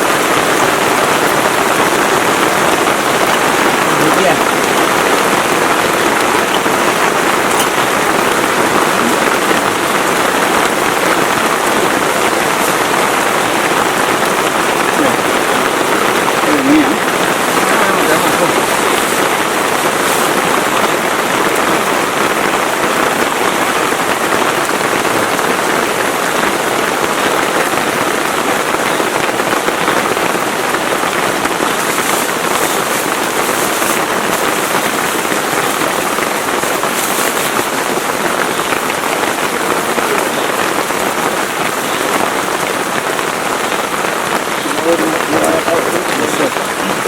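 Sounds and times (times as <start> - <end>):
heavy rain falling: 0.0 - 47.0
sharp rain spatters: 0.0 - 47.0.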